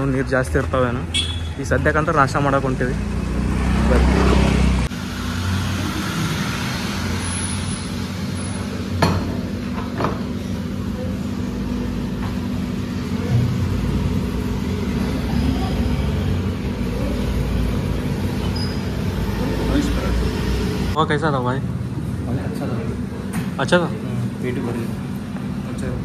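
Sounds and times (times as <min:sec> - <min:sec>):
low mechanical hum and rumble: 0:04.8 - 0:26.0.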